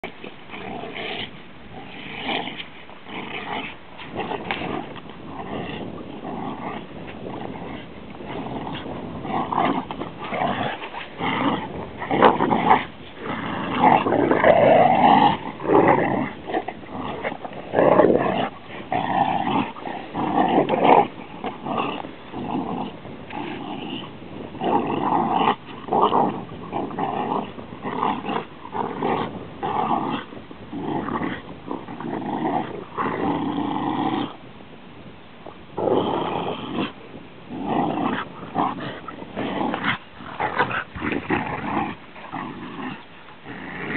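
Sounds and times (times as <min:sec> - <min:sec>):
dogs growling in play: 0:00.0 - 0:43.9.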